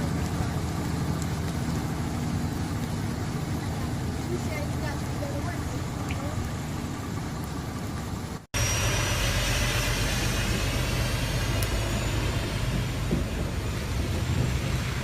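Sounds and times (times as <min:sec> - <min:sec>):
truck engine running: 0:00.0 - 0:15.0
water or rain noise: 0:00.0 - 0:15.0.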